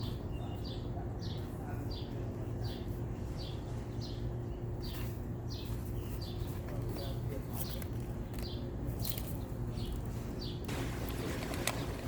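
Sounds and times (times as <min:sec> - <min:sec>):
bird chirping: 0:00.0 - 0:10.7
steady low hum: 0:00.0 - 0:12.0.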